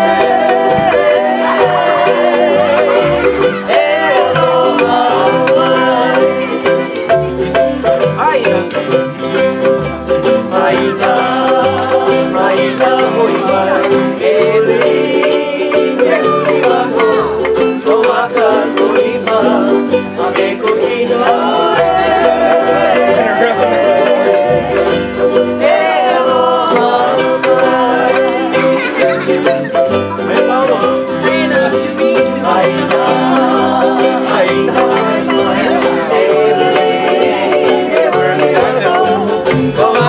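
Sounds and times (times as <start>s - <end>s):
plucked upright bass: 0.0s - 40.0s
strummed ukuleles and guitar: 0.0s - 40.0s.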